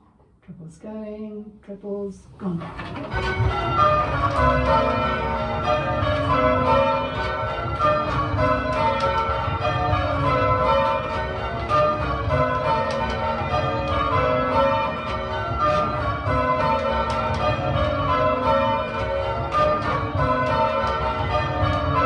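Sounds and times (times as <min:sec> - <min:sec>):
church bells change ringing: 0:02.8 - 0:22.0.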